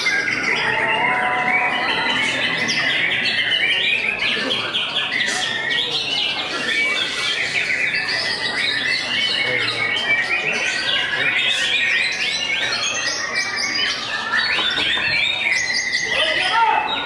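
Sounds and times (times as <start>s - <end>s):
birds singing chirps and whistles: 0.0s - 17.0s.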